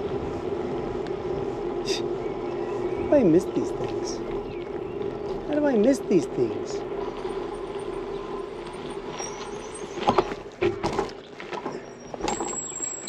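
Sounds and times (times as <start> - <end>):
bicycle riding hum: 0.0 - 13.0.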